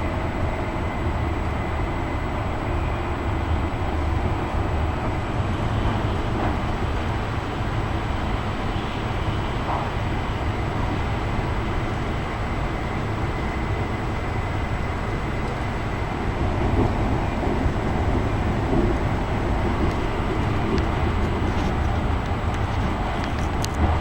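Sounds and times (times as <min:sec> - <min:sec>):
train cabin low rumble: 0:00.0 - 0:24.0.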